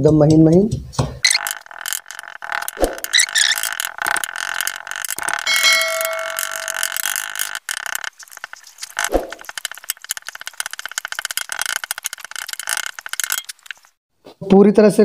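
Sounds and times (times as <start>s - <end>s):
pestle crunching and scraping: 1.2s - 14.0s.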